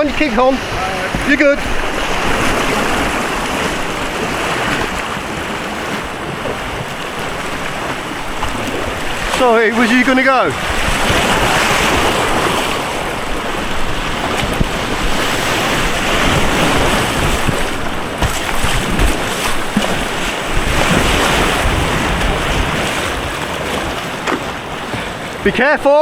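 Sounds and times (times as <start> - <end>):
wind buffeting microphone: 0.0 - 25.8
rushing white water: 0.0 - 26.0.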